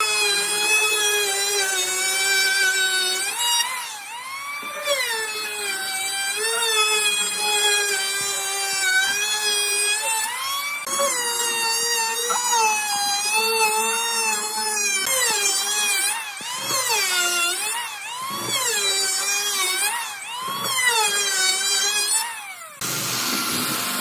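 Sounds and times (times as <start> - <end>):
power tool motor whining: 0.0 - 24.0.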